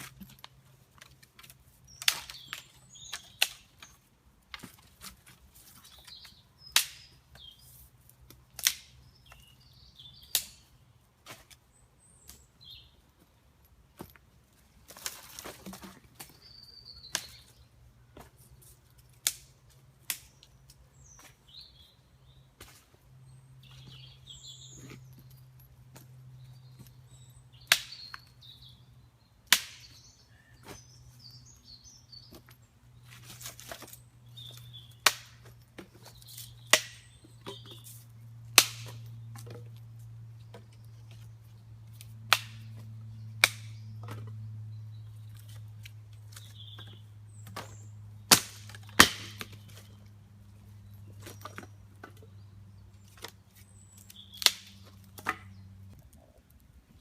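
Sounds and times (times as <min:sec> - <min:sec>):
birds chirping: 0:00.0 - 0:04.8, 0:05.6 - 0:07.9, 0:08.6 - 0:13.7, 0:14.5 - 0:19.2, 0:20.1 - 0:57.0.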